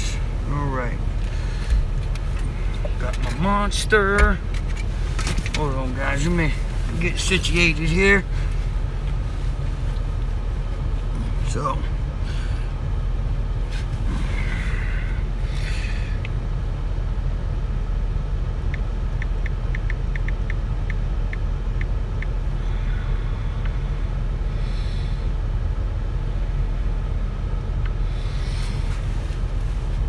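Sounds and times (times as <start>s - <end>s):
pickup engine idling: 0.0s - 30.0s.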